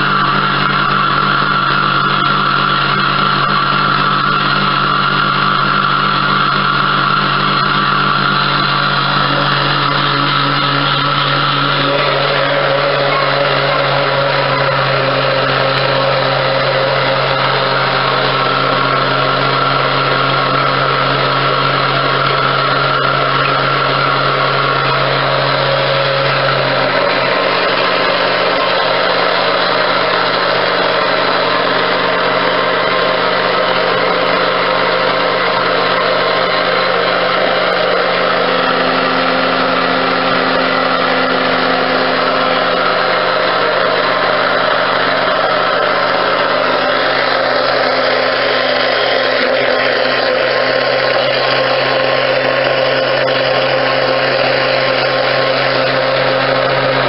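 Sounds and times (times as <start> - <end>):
blender motor running: 0.0 - 57.0.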